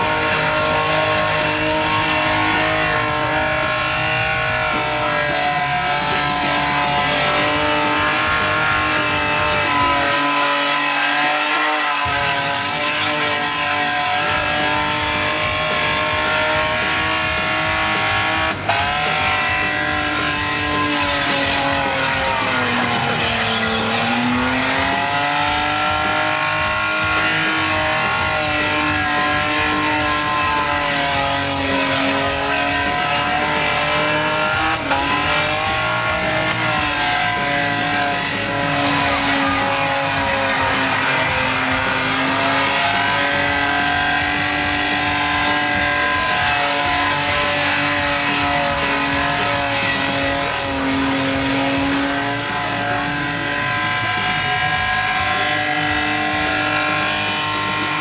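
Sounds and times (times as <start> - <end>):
engine revving at high revs: 0.0 - 58.0
tyres spinning and screeching: 0.0 - 58.0.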